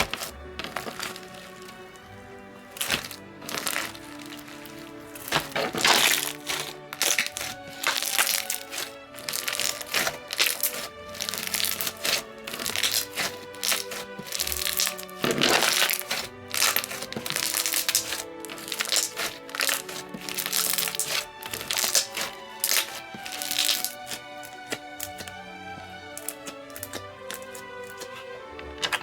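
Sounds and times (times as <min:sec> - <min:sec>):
slime popping and crackling: 0:00.0 - 0:02.0, 0:02.7 - 0:29.0
background music: 0:00.0 - 0:29.0.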